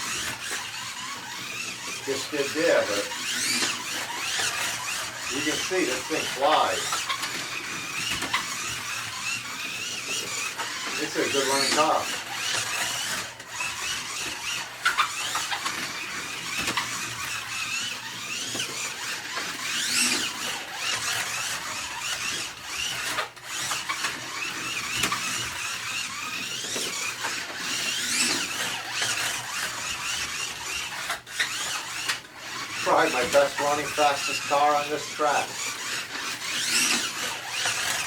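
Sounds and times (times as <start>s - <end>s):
slot car motor whining: 0.0s - 38.0s.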